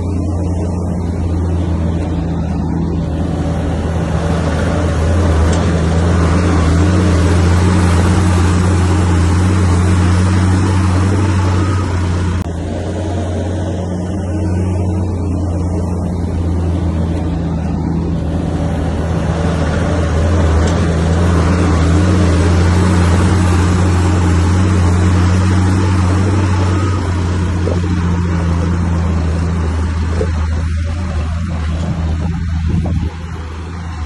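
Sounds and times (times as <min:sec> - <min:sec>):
bulldozer diesel engine droning: 0:00.0 - 0:34.0.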